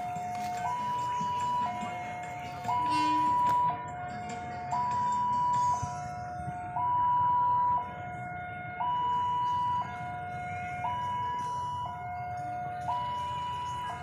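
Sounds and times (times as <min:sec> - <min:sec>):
two-tone electronic alarm: 0:00.0 - 0:14.0.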